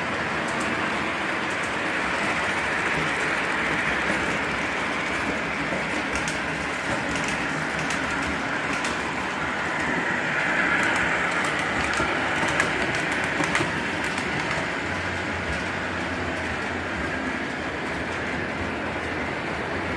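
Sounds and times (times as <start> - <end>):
model train rolling rumble: 0.0 - 19.9
sharp clicks from rails: 0.0 - 19.9.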